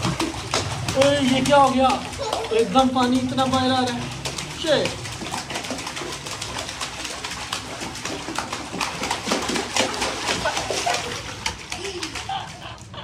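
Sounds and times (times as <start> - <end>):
children splashing water: 0.0 - 13.0.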